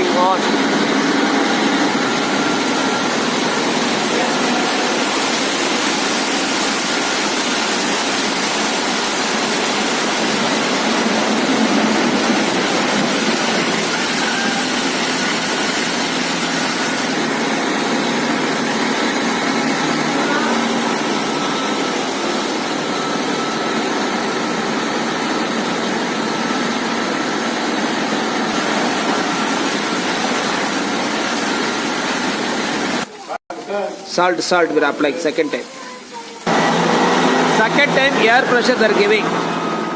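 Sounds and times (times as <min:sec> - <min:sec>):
compressor running: 0:00.0 - 0:39.9
rushing air and water: 0:00.0 - 0:39.9.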